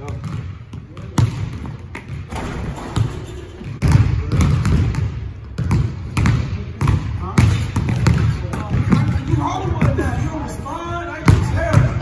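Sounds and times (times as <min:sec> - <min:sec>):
basketball bouncing on wooden floor: 0:00.0 - 0:10.0.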